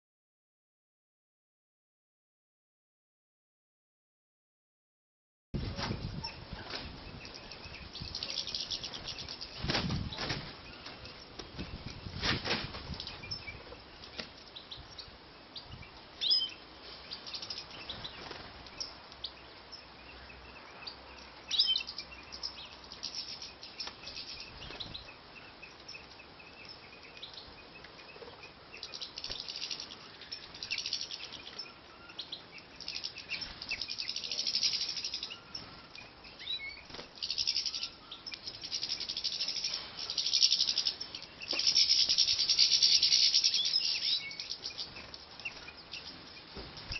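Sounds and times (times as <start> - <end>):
finches chirping and twittering: 6.0 - 12.2, 13.0 - 46.9.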